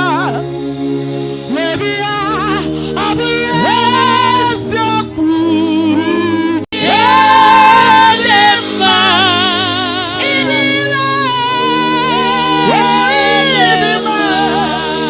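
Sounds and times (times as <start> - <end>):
sustained keyboard accompaniment: 0.0 - 15.0
person singing long wavering notes: 1.4 - 15.0.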